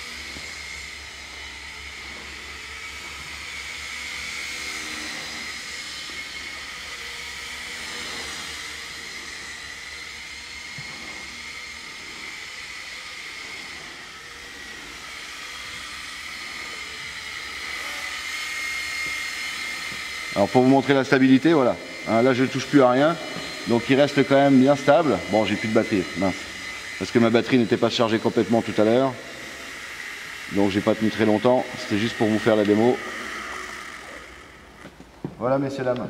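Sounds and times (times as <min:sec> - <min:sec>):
toy helicopter rotor whine: 0:00.0 - 0:36.0.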